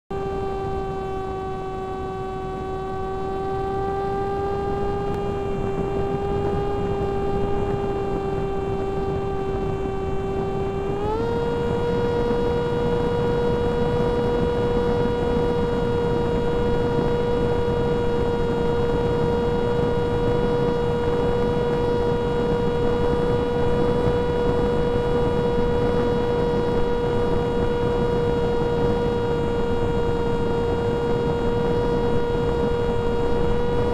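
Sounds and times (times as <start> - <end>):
electric motor whine: 0.1 - 33.9.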